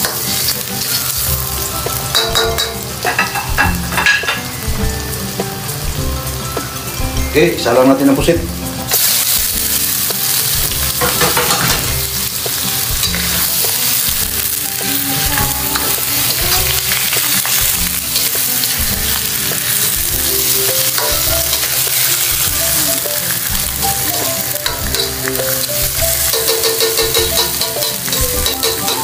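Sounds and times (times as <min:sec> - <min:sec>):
metal utensil stirring in wok: 0:00.0 - 0:07.0, 0:08.8 - 0:29.0
squid sizzling in hot oil: 0:00.0 - 0:29.0.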